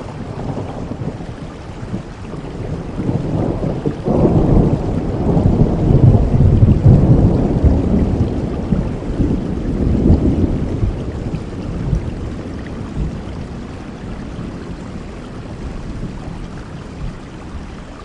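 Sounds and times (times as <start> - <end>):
thunder rumbling: 0.0 - 17.7
rain falling: 0.0 - 18.0.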